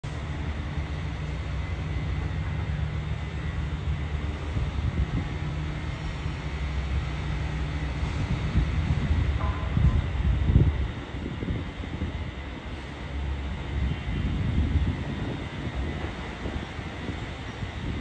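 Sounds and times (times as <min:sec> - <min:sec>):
rail van engine droning: 0:00.0 - 0:18.0.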